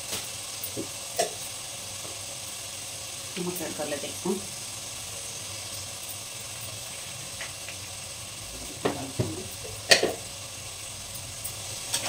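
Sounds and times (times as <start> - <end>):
tomatoes sizzling in a pan: 0.0 - 12.0.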